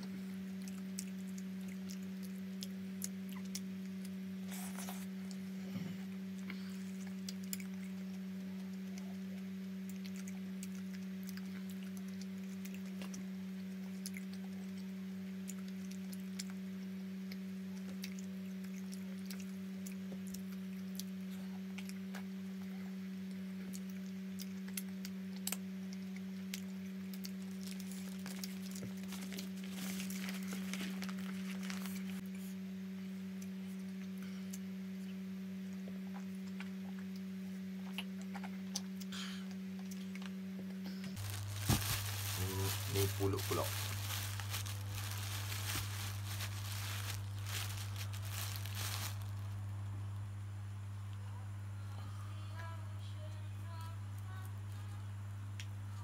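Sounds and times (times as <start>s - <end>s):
chewing bread: 0.0s - 32.4s, 33.4s - 49.7s
steady low hum: 0.0s - 56.0s.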